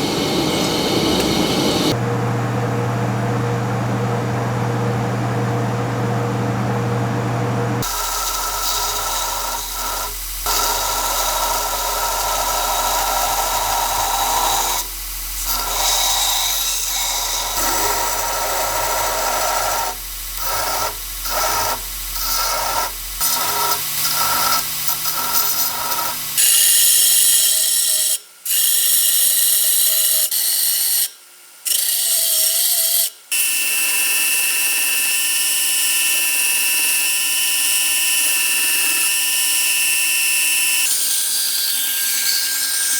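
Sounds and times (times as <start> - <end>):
power tool grinding rail steel: 0.0 - 2.0, 7.8 - 31.1, 31.7 - 42.9.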